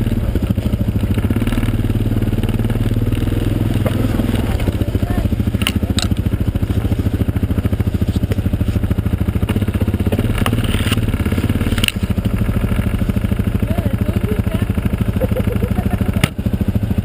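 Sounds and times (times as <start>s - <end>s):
quad engine idling: 0.0s - 17.0s.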